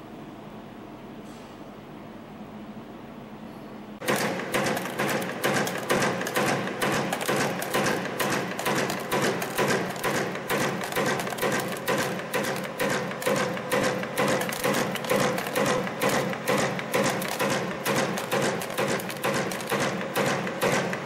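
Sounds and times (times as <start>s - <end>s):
wire forming machine clattering: 4.0s - 21.0s.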